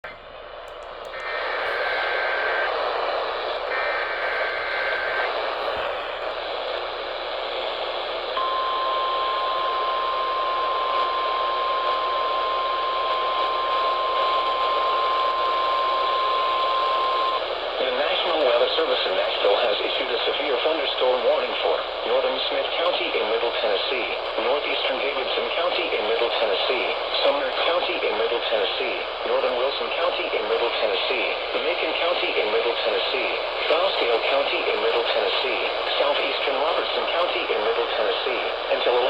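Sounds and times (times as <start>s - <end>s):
am radio static: 1.1s - 39.0s.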